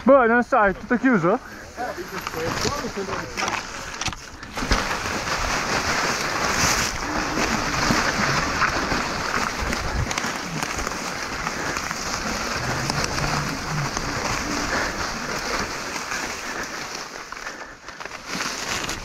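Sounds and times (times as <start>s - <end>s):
tyres crunching on gravel: 0.0s - 19.0s.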